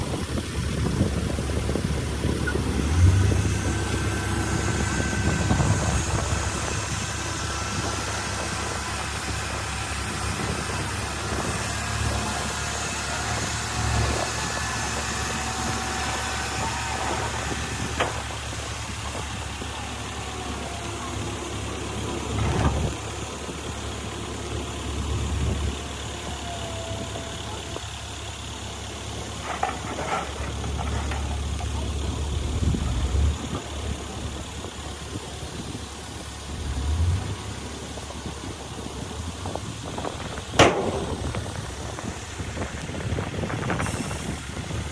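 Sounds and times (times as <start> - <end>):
heavy diesel engine rumbling: 0.0 - 44.9.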